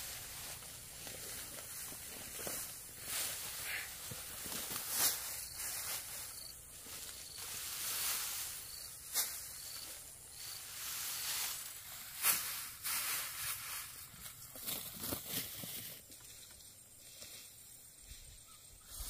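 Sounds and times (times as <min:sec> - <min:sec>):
dry straw rustling and crackling: 0:00.0 - 0:19.0.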